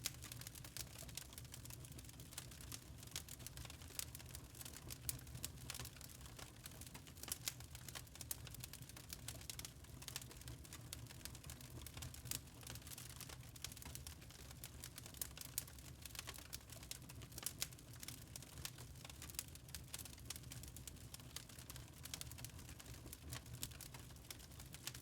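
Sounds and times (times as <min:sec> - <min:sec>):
low rumble of burning logs: 0:00.0 - 0:25.0
wood fire crackling: 0:00.0 - 0:25.0.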